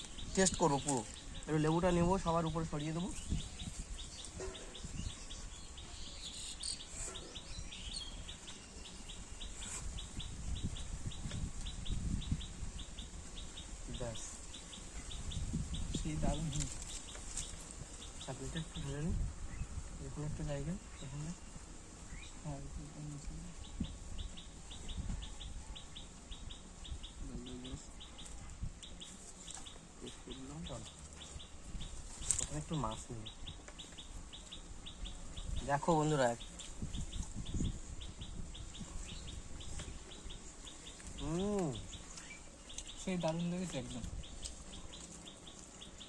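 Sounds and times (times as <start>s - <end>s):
small bird chirping: 0.0s - 19.8s, 20.5s - 46.0s.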